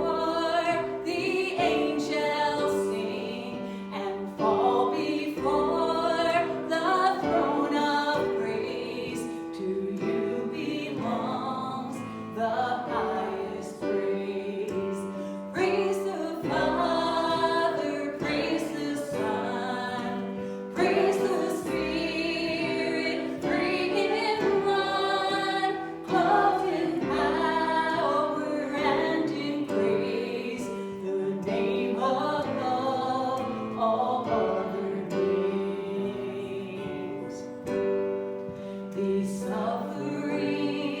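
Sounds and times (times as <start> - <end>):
congregation singing: 0.0 - 41.0
instrumental accompaniment: 0.0 - 41.0.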